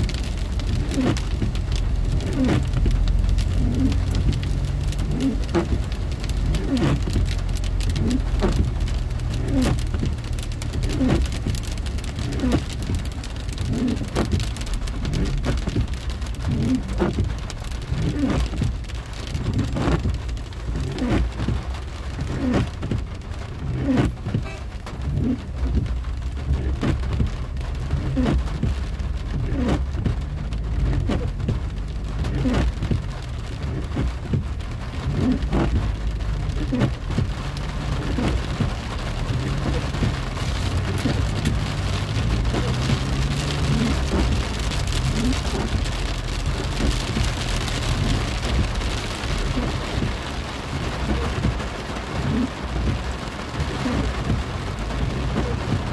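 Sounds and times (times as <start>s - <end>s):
rain drumming on a car roof: 0.0s - 55.9s.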